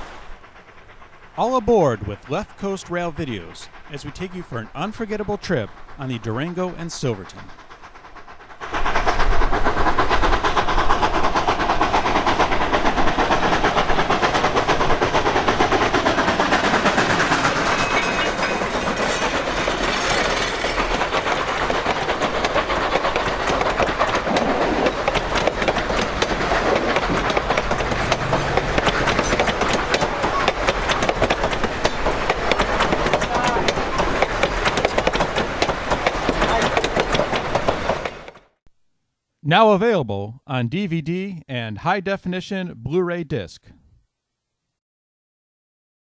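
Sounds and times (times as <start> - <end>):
train wheels clattering on rails: 0.0 - 38.6.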